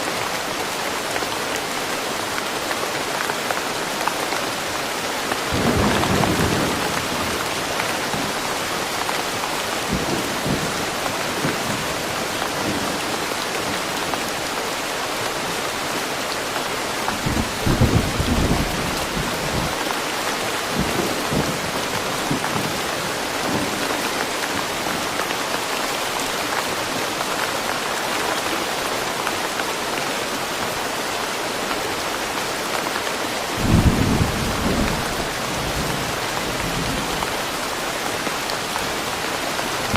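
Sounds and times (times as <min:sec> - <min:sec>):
heavy rain on trees: 0:00.0 - 0:39.9.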